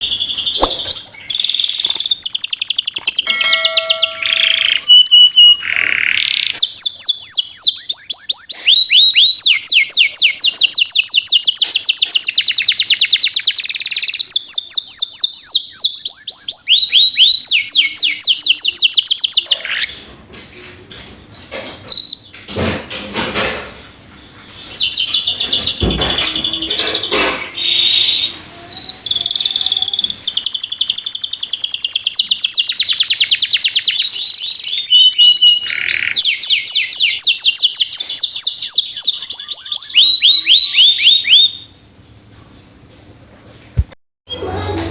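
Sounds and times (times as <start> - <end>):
canary trilling song: 0.0 - 20.0, 21.3 - 22.4, 24.5 - 41.8.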